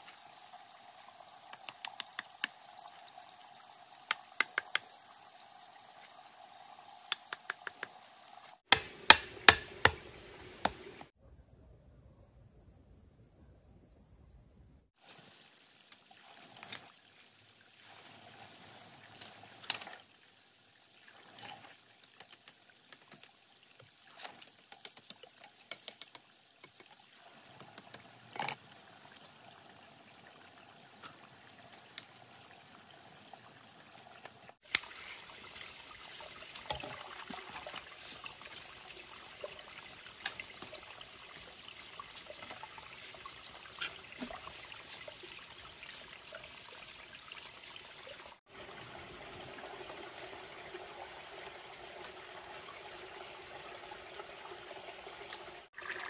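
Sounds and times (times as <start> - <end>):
water trickling and splashing: 0.0 - 8.7, 15.0 - 56.0.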